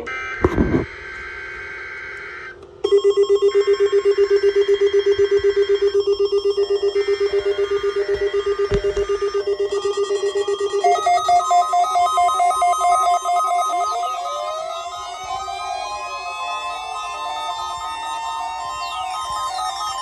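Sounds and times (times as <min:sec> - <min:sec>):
electronic alarm beeping: 0:00.0 - 0:20.0.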